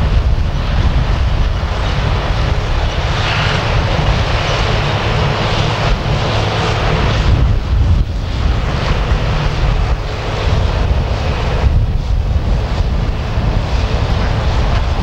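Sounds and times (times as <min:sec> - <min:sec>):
tractor engines rumbling: 0:00.0 - 0:15.0
wind buffeting microphone: 0:00.0 - 0:15.0.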